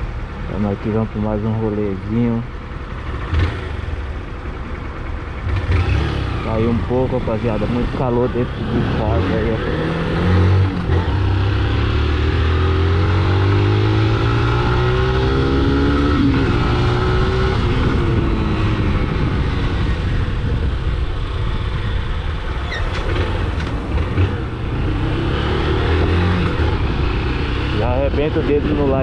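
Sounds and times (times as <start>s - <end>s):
motorcycle engine accelerating: 2.8s - 29.0s.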